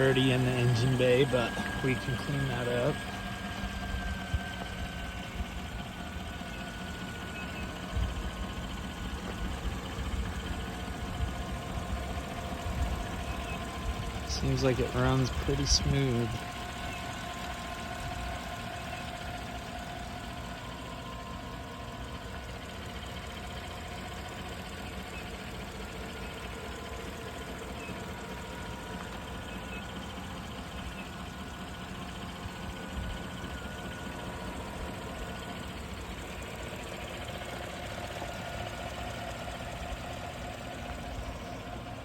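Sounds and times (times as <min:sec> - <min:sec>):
faint steady whine: 0:00.0 - 0:42.0
truck engine idling: 0:00.0 - 0:42.0.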